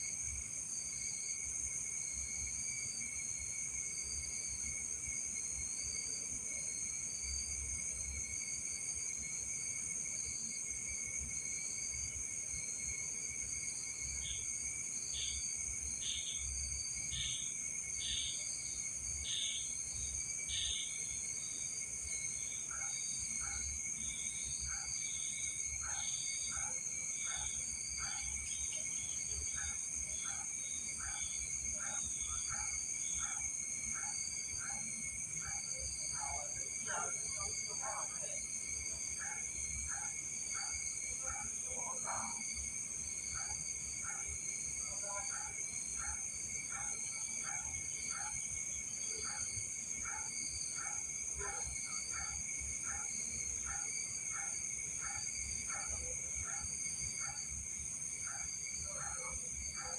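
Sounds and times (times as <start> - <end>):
crickets and insects trilling: 0.0 - 59.9.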